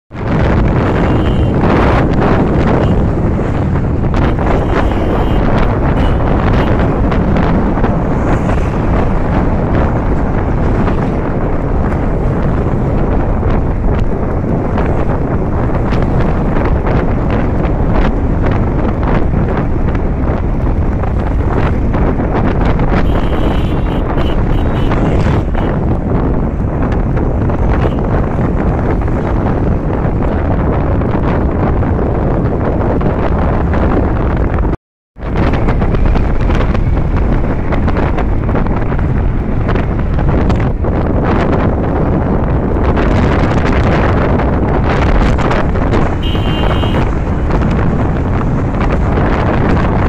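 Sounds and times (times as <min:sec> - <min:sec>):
wind noise on microphone: 0:00.1 - 0:50.0.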